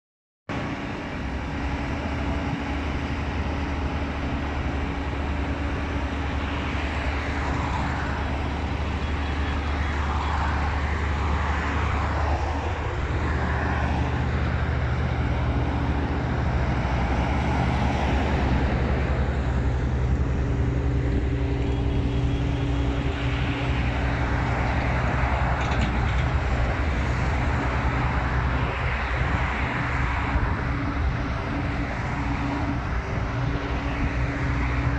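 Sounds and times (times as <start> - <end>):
diesel engines running: 0.5 - 34.9
traffic passing: 0.5 - 34.9.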